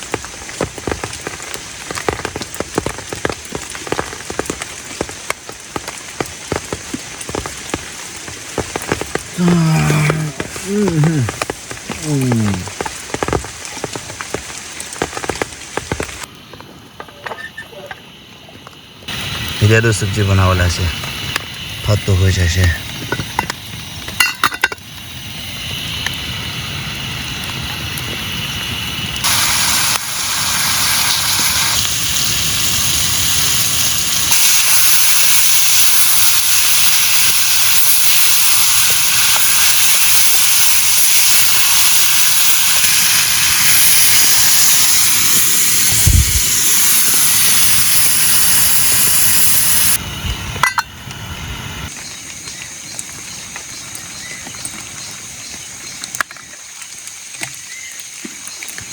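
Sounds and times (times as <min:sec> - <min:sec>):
vegetables sizzling in hot oil: 0:00.0 - 0:16.3, 0:18.8 - 0:56.1.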